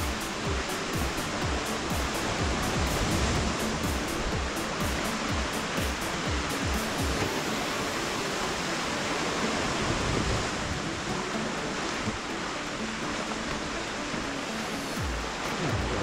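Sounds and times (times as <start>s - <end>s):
surf rushing against rocks: 0.0s - 16.0s.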